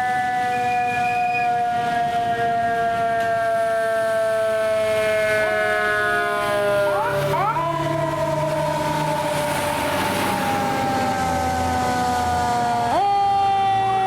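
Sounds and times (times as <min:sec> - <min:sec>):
mechanical siren wailing: 0:00.0 - 0:14.0
second siren tone rising: 0:00.0 - 0:14.0.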